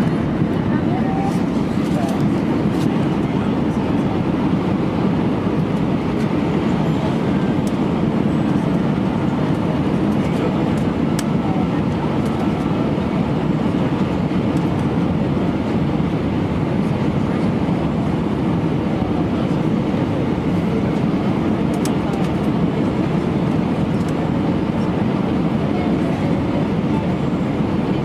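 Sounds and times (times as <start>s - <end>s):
airliner cabin engine noise: 0.0s - 28.0s.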